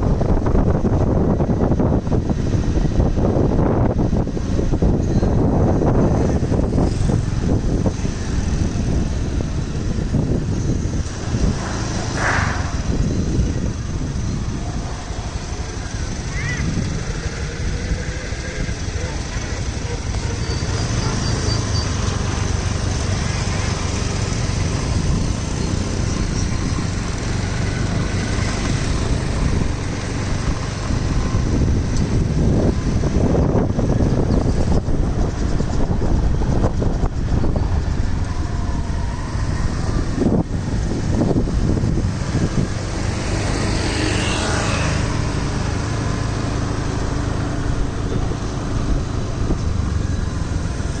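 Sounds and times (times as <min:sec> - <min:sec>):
street traffic noise: 0:00.0 - 0:51.0
vehicle engine humming: 0:00.0 - 0:51.0.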